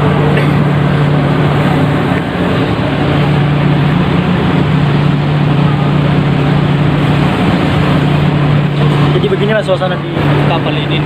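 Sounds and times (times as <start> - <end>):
ship engine droning: 0.0 - 11.0
steady rushing noise: 0.0 - 11.0.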